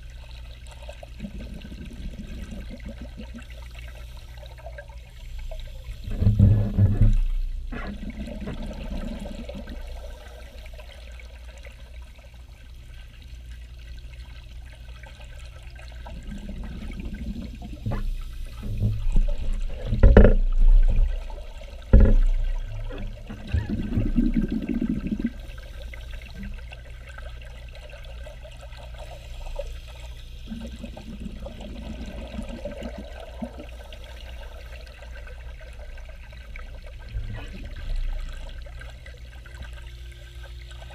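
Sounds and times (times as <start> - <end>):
exhaled bubbles rushing: 0.0 - 40.9
low underwater hum: 0.0 - 40.9.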